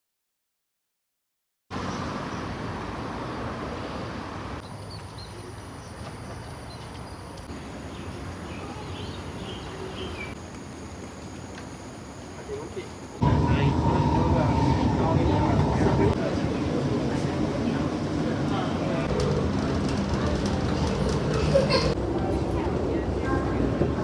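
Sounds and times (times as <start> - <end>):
rushing background noise: 1.8 - 24.0.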